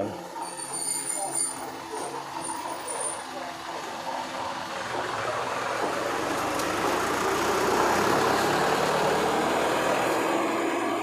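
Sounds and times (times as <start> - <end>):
vehicle engine running: 1.6 - 11.0.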